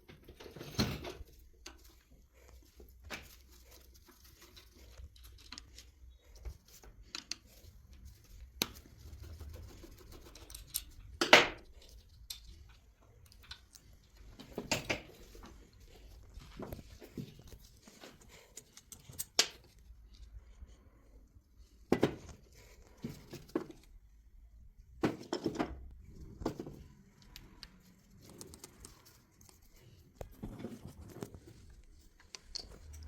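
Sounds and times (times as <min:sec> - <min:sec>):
tools and parts being handled: 0:00.0 - 0:20.5, 0:21.2 - 0:33.0.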